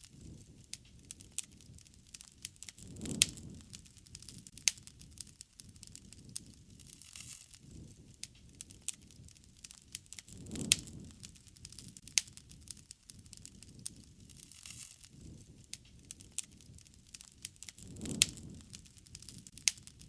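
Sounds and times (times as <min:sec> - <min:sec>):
low rush of flame: 0:00.0 - 0:20.0
wood fire crackling and popping: 0:00.0 - 0:20.0.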